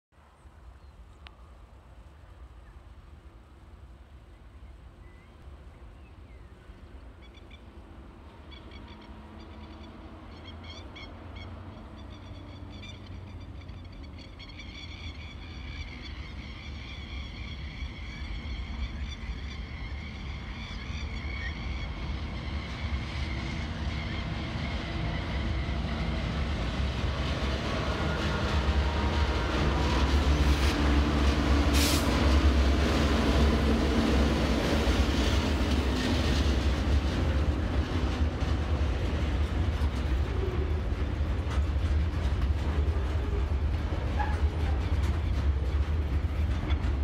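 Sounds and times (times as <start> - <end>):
diesel locomotive engine rumble: 0.2 - 47.0.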